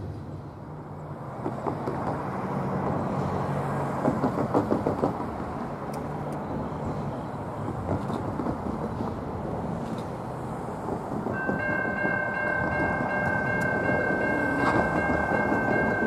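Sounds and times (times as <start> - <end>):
distant diesel locomotive drone: 0.0 - 16.0.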